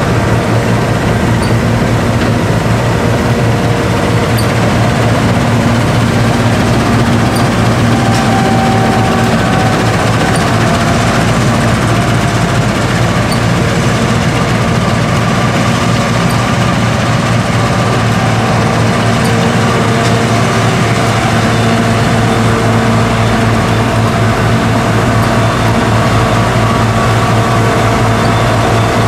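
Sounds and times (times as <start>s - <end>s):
combine harvester engine hum: 0.0s - 29.0s.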